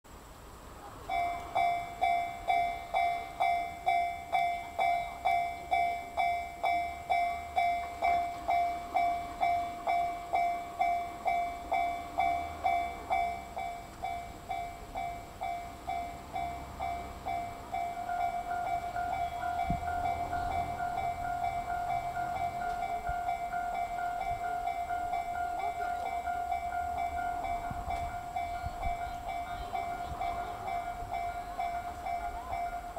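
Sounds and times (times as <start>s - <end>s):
level crossing warning bell: 1.0s - 32.9s
higher-pitched alarm tone: 1.2s - 32.9s.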